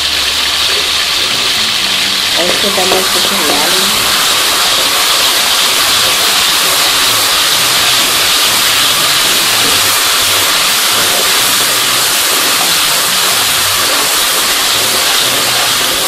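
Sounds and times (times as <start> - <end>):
garlic paste sizzling in oil: 0.0 - 16.0.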